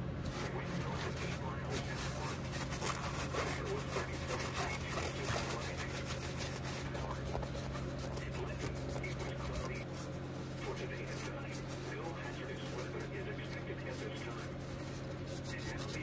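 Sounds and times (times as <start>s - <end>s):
steady low hum: 0.0s - 16.0s
towel rustling and rubbing: 0.2s - 16.0s.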